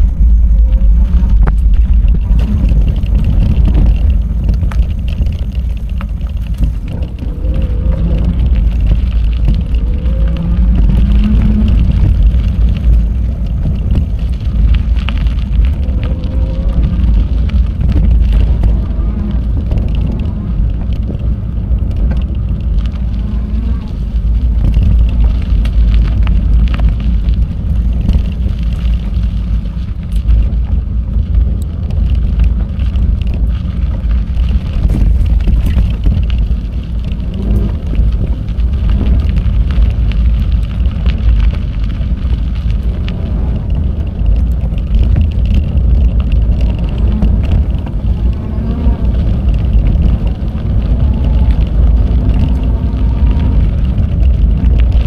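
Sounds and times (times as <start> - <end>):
bicycle clicks and knocks: 0.0 - 23.1, 24.0 - 55.0
wind buffeting microphone: 0.0 - 55.0.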